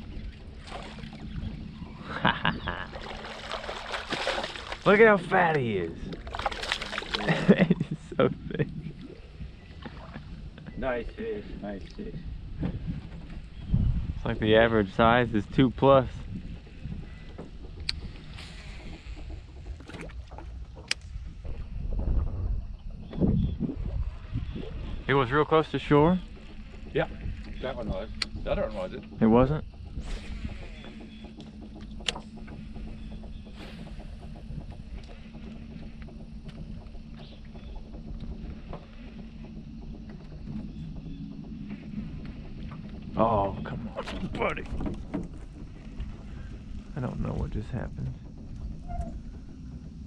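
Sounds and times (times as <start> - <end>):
boat engine low hum: 0.0 - 50.0
wind rumble on microphone: 0.0 - 50.0.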